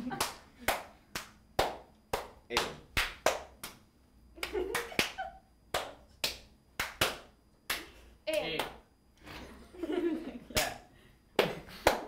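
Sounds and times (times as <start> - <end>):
sharp handclaps: 0.0 - 8.8, 10.4 - 10.8, 11.4 - 12.0.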